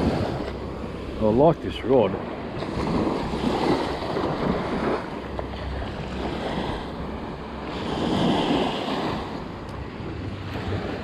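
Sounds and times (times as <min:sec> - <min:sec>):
small waves washing onto sand: 0:00.0 - 0:11.0
wind buffeting microphone: 0:00.0 - 0:11.0.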